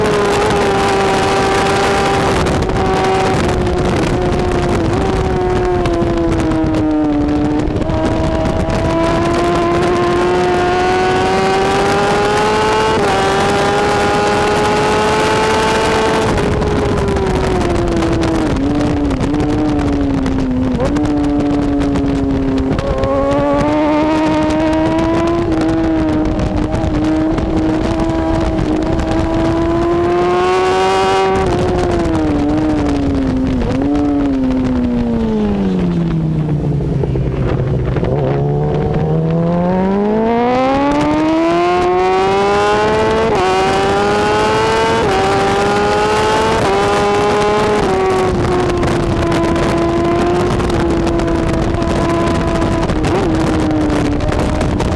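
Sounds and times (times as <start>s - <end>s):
motorcycle engine revving: 0.0s - 54.9s
wind rush: 0.0s - 54.9s.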